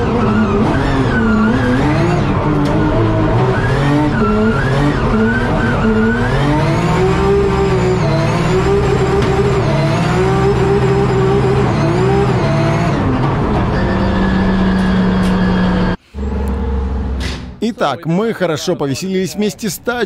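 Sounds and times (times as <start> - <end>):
car engine revving: 0.0 - 17.4.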